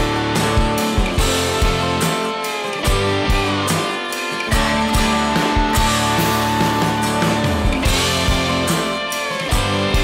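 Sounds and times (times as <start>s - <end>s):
rock music with guitar and drums: 0.0s - 10.0s.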